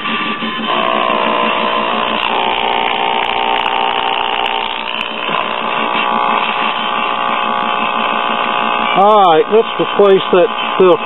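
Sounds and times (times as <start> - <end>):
radio speaker buzzing hum: 0.6 - 11.0.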